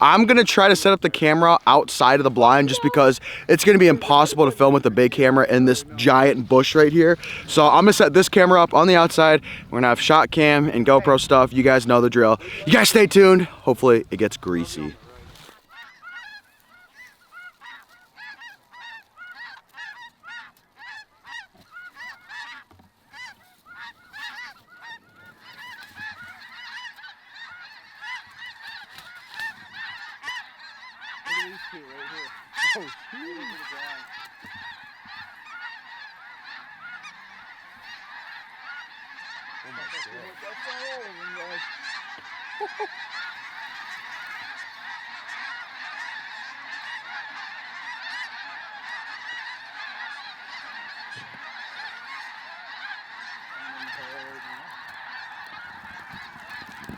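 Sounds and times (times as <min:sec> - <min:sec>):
snow geese honking: 0:00.0 - 0:56.9.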